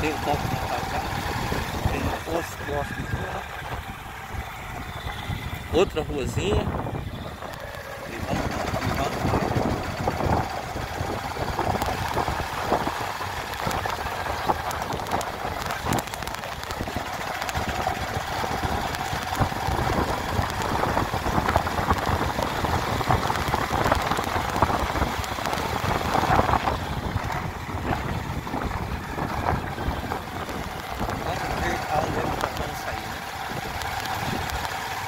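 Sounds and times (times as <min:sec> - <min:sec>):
road noise: 0:00.0 - 0:35.0
vehicle engine running: 0:00.0 - 0:35.0.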